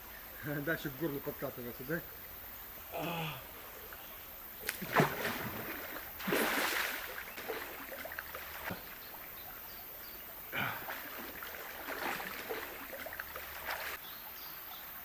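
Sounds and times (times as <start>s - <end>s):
shallow river water running: 0.0s - 15.0s.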